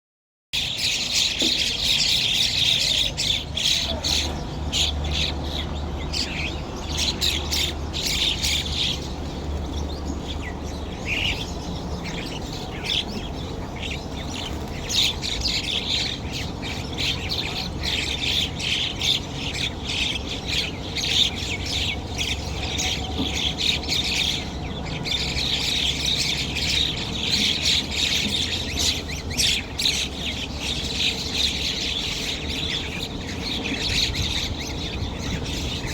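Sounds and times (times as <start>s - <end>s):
flock of birds chattering: 0.6s - 35.9s.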